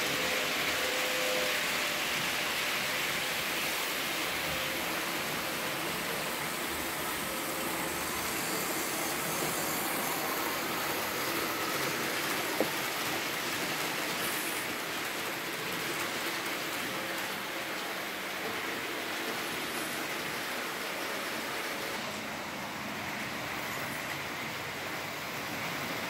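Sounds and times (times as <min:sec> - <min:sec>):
model train running on track: 0:00.0 - 0:26.0.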